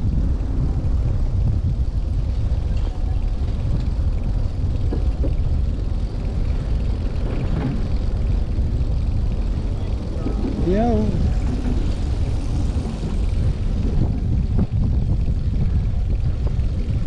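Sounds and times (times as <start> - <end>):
bicycle tyre noise: 0.0 - 17.0
wind rumbling on microphone: 0.0 - 17.0.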